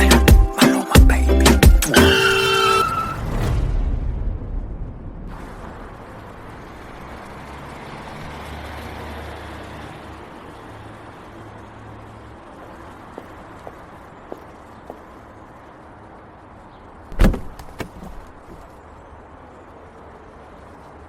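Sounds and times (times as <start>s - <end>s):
vehicle engine rumbling: 2.1s - 16.2s, 17.0s - 19.8s.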